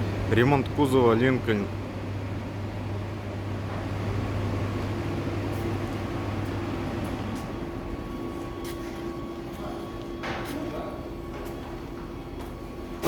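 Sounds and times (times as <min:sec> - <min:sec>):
mechanical hum with low drone: 0:00.0 - 0:13.0.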